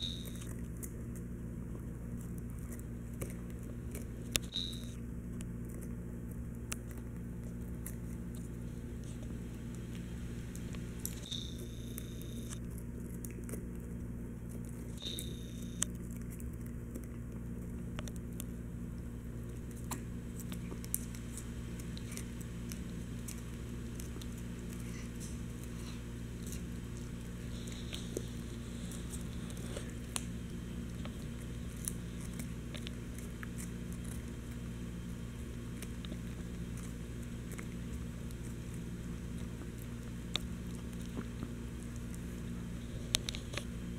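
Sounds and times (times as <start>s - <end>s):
dog teeth crunching on rawhide: 0.0s - 43.9s
steady low hum: 0.0s - 43.9s.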